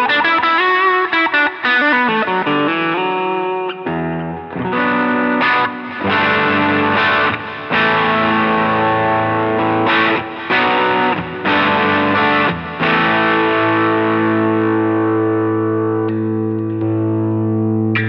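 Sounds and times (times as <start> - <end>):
overdriven electric guitar chords: 0.0 - 18.0.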